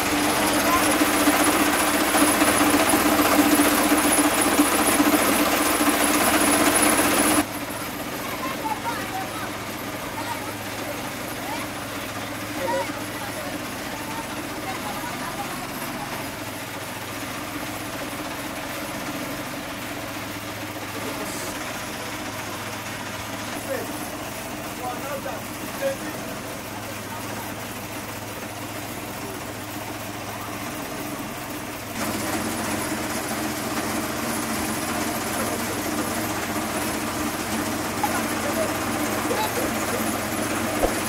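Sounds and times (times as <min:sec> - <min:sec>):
grating machine rattle: 0:00.0 - 0:41.0
small petrol engine running: 0:00.0 - 0:41.0.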